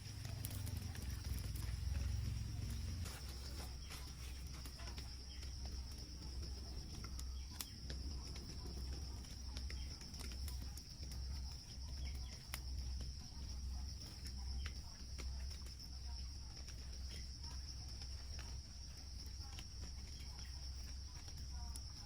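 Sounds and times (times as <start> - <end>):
insects droning: 0.0 - 22.0
low uneven rumble: 0.0 - 22.0.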